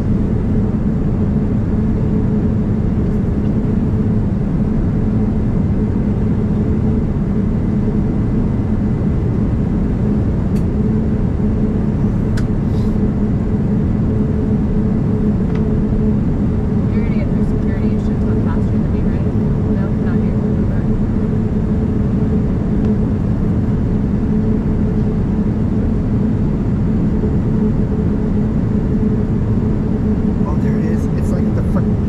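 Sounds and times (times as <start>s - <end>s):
airplane cabin roar: 0.0s - 32.0s
low steady hum: 0.0s - 32.0s.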